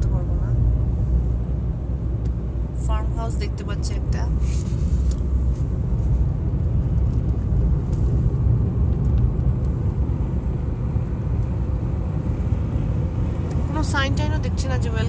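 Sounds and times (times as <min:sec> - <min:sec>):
car driving interior rumble: 0:00.0 - 0:15.0.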